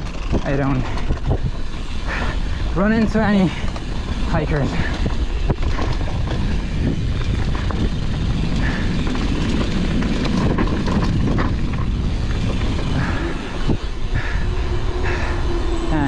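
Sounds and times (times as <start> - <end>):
bike rattles and clicks: 0.0 - 16.0
bike tyres on rough trail: 0.0 - 16.0
wind noise on microphone: 0.0 - 16.0.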